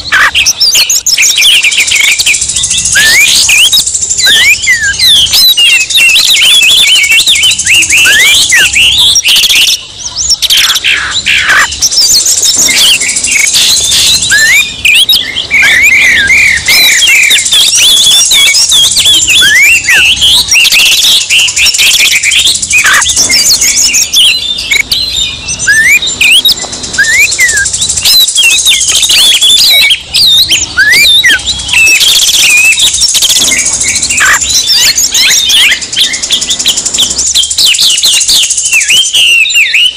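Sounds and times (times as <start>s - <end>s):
birds singing agitated songs: 0.0s - 39.9s.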